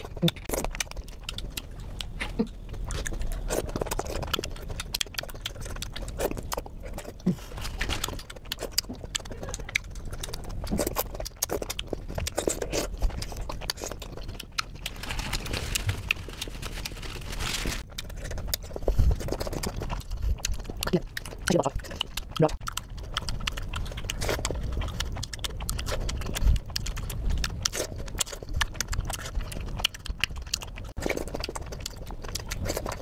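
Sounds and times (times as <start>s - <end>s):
wet chewing: 0.0s - 33.0s.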